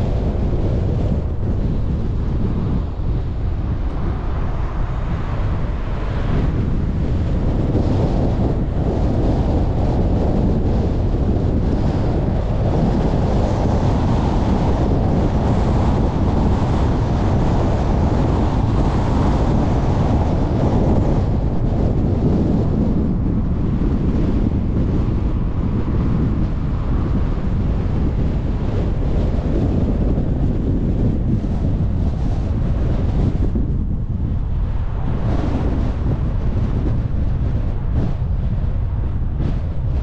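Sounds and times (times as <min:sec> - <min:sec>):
car road noise: 0:00.0 - 0:40.0
wind noise on microphone: 0:00.0 - 0:40.0.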